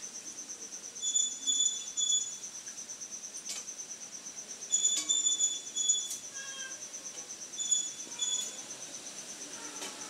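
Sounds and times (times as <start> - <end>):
insect chirring: 0.0 - 10.0.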